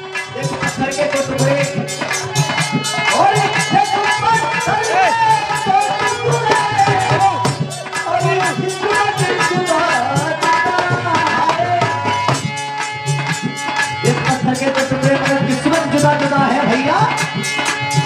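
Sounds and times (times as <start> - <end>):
hand drum rhythm: 0.0 - 18.0
held melody line: 0.0 - 18.0.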